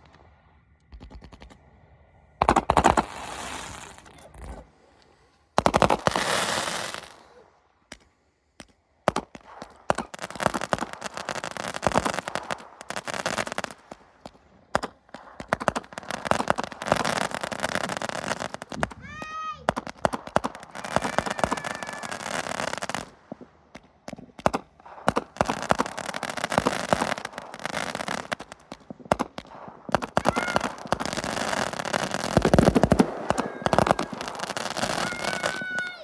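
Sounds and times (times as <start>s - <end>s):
rapid crackling firework pops: 0.0s - 1.7s, 2.4s - 4.6s, 5.6s - 7.3s, 7.9s - 36.0s
loud firework bangs: 2.4s - 4.1s, 5.6s - 7.2s, 8.6s - 36.0s.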